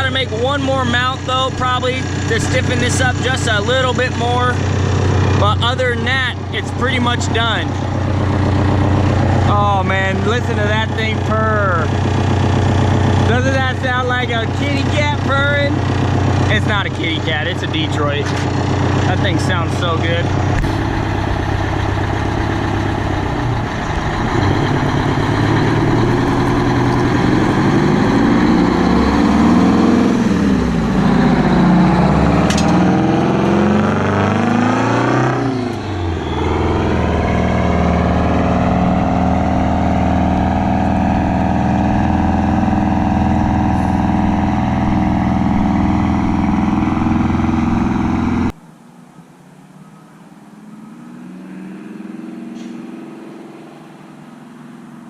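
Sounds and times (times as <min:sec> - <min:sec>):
diesel truck engine revving: 0:00.0 - 0:48.6, 0:50.0 - 0:55.0
diesel engine idling: 0:00.0 - 0:48.7.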